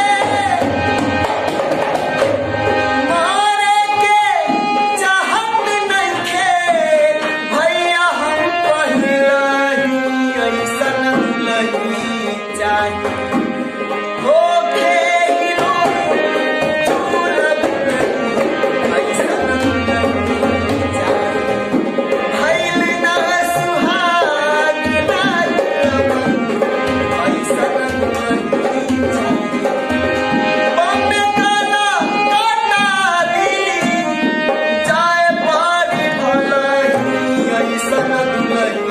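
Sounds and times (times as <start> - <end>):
tabla playing a beat: 0.0 - 38.9.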